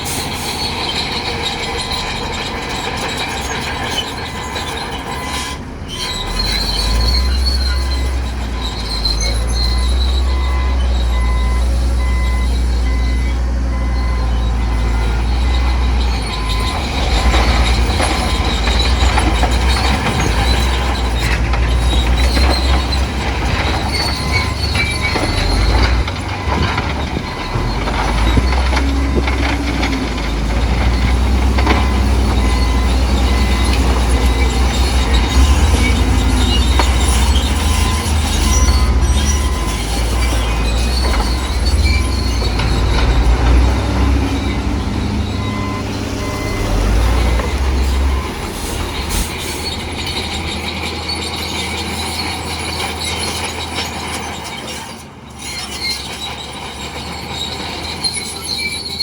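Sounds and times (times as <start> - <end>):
diesel engine under load: 0.0 - 59.0
steel tracks clanking and squealing: 0.0 - 59.0.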